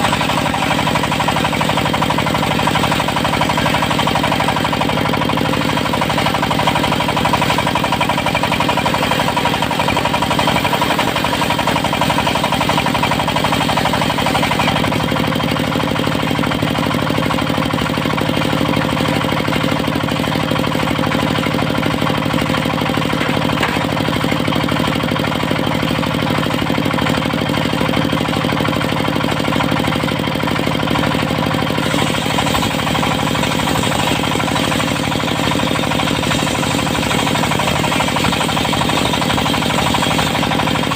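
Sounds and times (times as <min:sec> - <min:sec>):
saw blade whine: 0:00.0 - 0:40.9
sawmill engine drone: 0:00.0 - 0:40.9.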